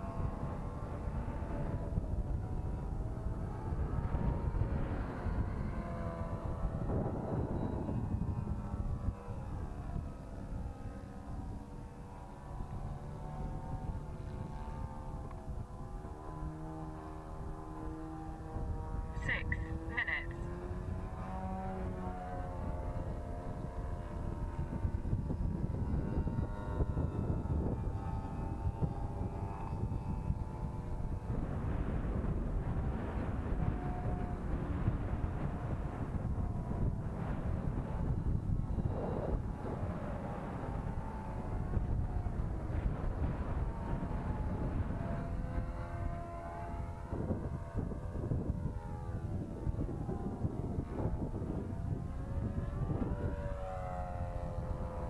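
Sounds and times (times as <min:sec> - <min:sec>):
model airplane engine at high revs: 0:00.0 - 0:55.0
wind rumble on microphone: 0:00.0 - 0:55.0.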